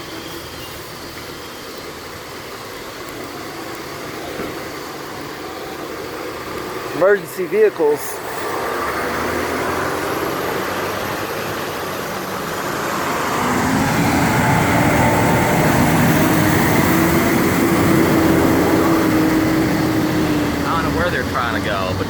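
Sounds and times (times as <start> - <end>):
emergency vehicle driving by: 0.0 - 22.0.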